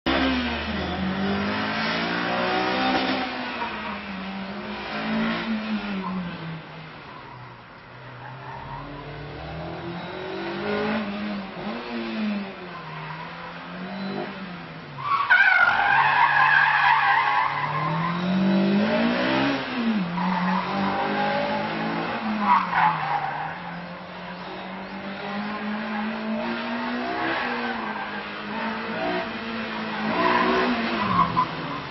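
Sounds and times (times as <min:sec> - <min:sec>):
car engine revving: 0:00.1 - 0:07.4, 0:08.2 - 0:31.9.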